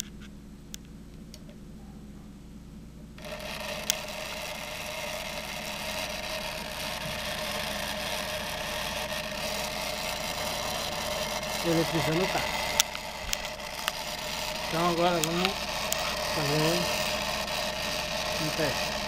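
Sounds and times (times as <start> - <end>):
motor and belt rattling: 3.2 - 19.0.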